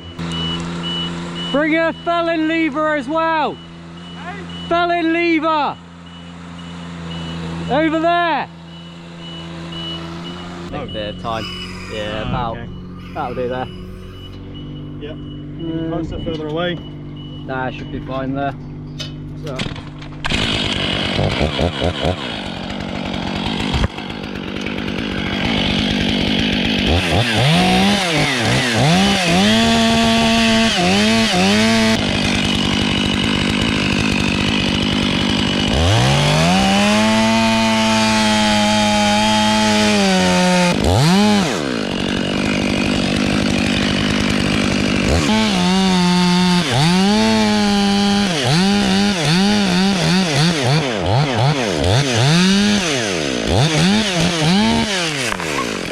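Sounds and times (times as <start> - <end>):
chainsaw cutting wood: 0.0 - 14.8, 18.7 - 55.9.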